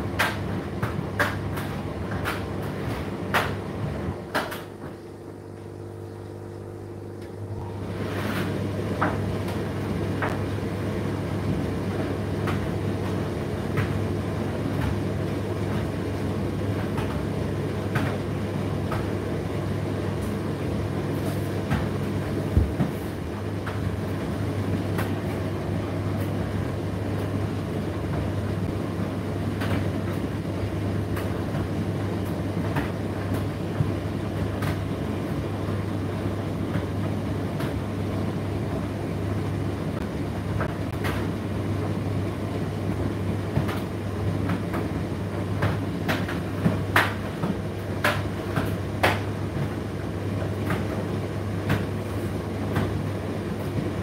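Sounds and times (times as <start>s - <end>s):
dryer drum knocking: 0.0s - 5.7s, 7.2s - 54.0s
tumble dryer motor and fan hum: 0.0s - 54.0s.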